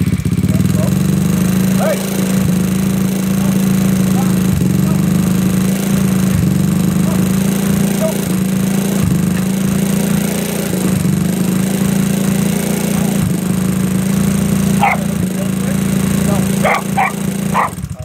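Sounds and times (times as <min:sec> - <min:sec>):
scooter engine running: 0:00.0 - 0:18.0.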